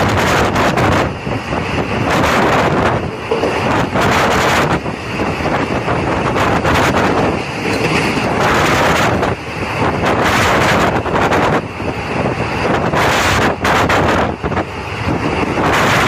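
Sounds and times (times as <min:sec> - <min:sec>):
train roaring through tunnel: 0:00.0 - 0:16.0
wind buffeting microphone: 0:00.0 - 0:16.0.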